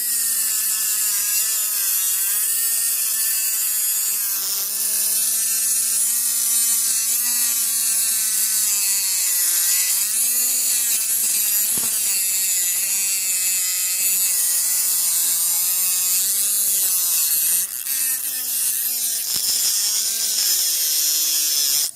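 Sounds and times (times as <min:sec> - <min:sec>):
small motor whine with hiss: 0:00.0 - 0:21.9.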